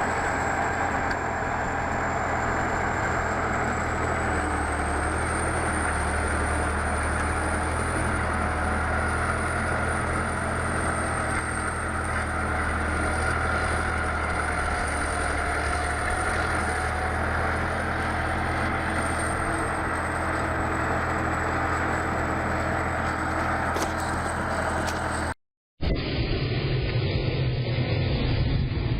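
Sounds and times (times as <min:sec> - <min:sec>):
heavy vehicle engine droning: 0:00.0 - 0:28.9
high-pitched whine: 0:00.0 - 0:28.9.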